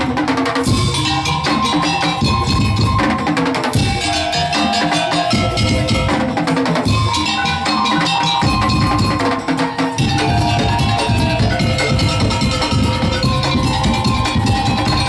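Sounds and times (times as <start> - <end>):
fast drumming: 0.0 - 15.0
held melody line: 0.0 - 15.0.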